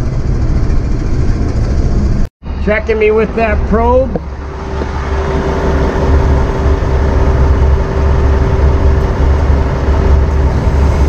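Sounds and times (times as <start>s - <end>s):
steady whine: 0.0s - 11.0s
truck engine idling: 0.0s - 11.0s.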